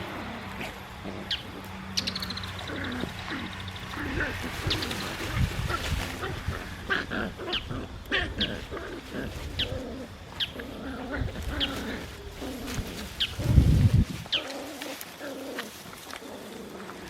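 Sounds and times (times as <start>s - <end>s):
birds chirping: 0.0s - 17.0s
birds cooing: 0.0s - 17.0s.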